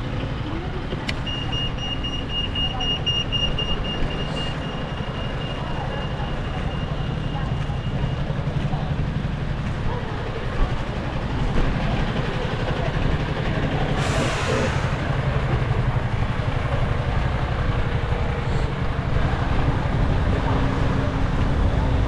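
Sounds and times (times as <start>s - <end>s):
large vehicle engine rumbling: 0.0s - 22.0s.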